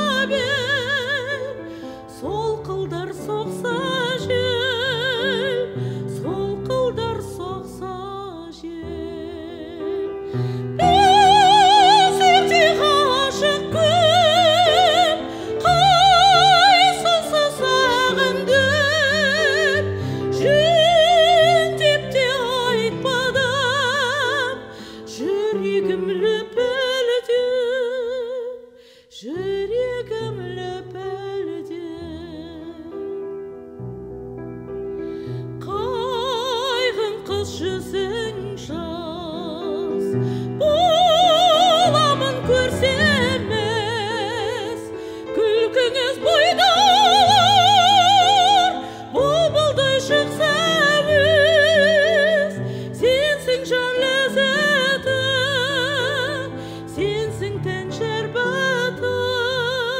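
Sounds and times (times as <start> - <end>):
woman singing with vibrato: 0.0 - 32.9, 35.6 - 59.9.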